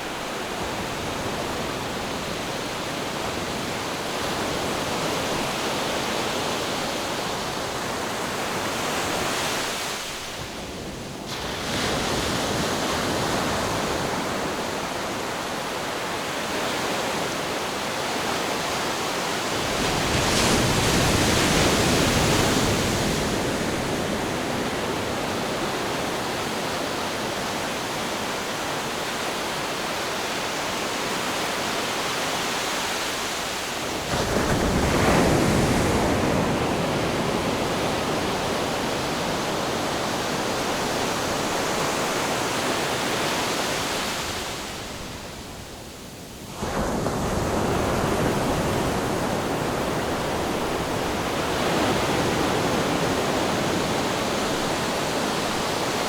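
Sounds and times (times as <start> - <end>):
ocean waves washing: 0.0 - 56.0.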